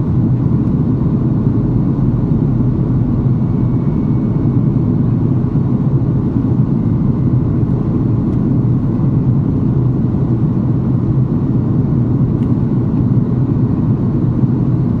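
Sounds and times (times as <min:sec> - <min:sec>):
air rushing along fuselage: 0:00.0 - 0:15.0
jet cabin drone: 0:00.0 - 0:15.0.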